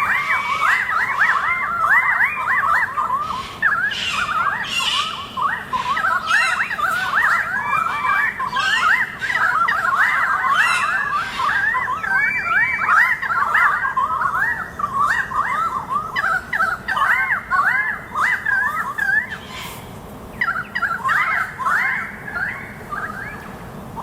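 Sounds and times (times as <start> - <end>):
chorus of bird calls: 0.0 - 24.0.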